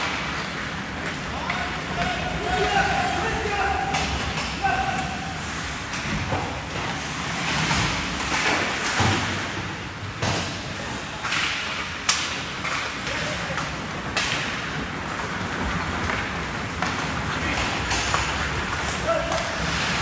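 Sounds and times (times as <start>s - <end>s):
skates scraping ice: 0.0s - 20.0s.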